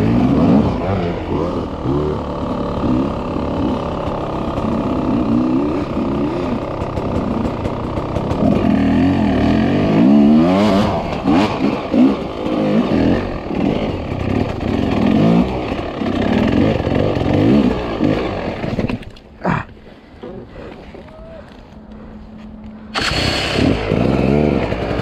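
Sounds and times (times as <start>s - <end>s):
dirt bike engine revving: 0.0s - 19.1s, 22.8s - 25.0s.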